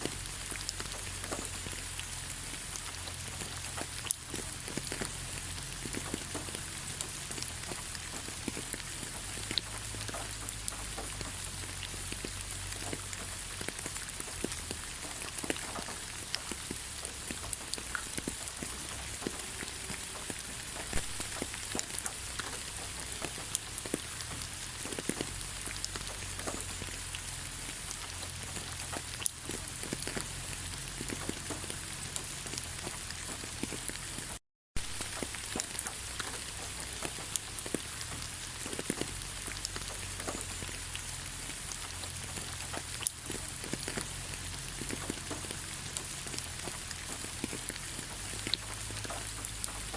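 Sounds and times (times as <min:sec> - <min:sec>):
gentle rain in forest: 0:00.0 - 0:49.9.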